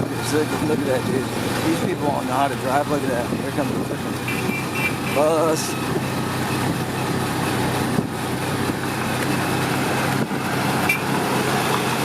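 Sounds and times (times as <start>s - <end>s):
road traffic: 0.0s - 12.0s
vehicle engine running: 0.0s - 12.0s.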